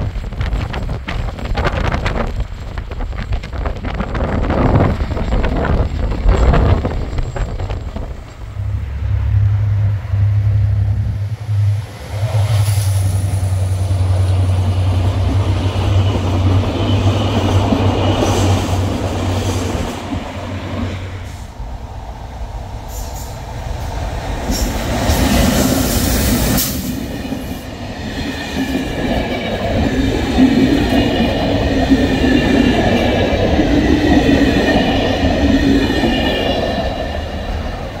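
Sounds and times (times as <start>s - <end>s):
diesel locomotive engine droning: 0.0s - 38.0s
train passing: 0.0s - 38.0s.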